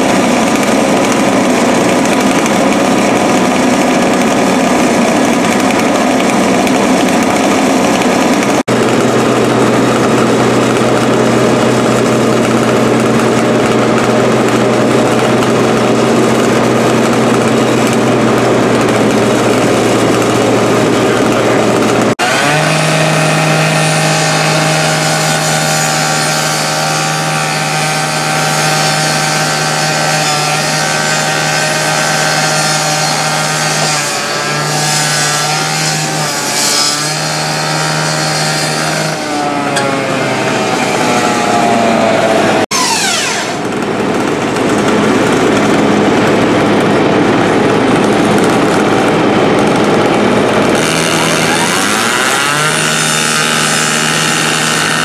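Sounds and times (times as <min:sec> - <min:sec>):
saw blade grinding sheet metal: 0:00.0 - 0:46.4, 0:47.3 - 0:55.0
cut-off saw engine whining: 0:00.0 - 0:55.0
rush of machine noise: 0:00.0 - 0:55.0.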